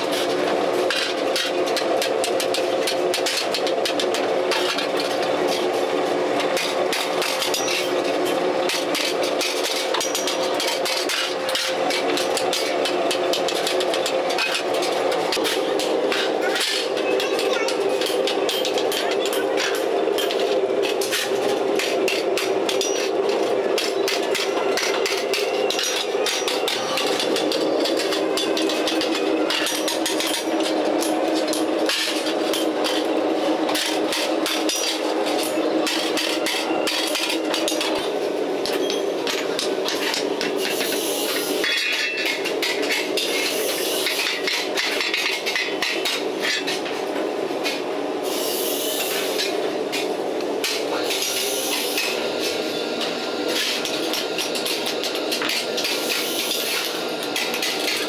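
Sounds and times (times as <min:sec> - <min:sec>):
hammers striking sheet steel: 0:00.0 - 0:58.0
steady hum: 0:00.0 - 0:58.0.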